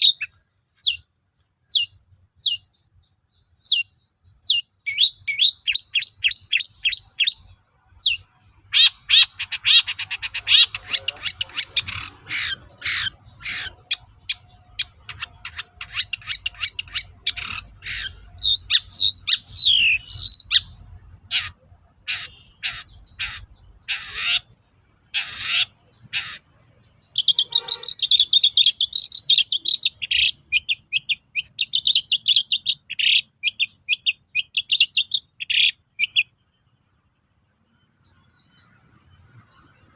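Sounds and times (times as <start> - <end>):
shrike chattering song: 0.0 - 36.4.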